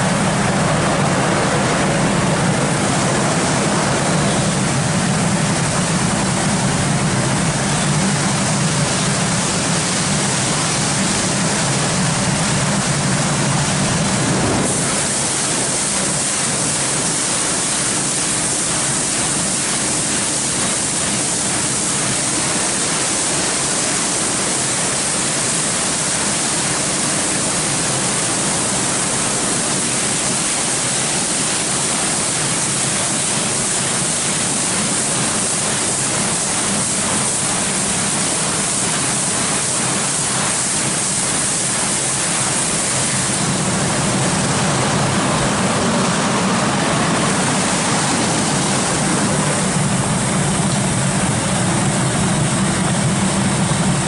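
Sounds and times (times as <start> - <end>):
car wash spraying water jets: 0.0 - 54.0
low machine hum: 0.0 - 54.0.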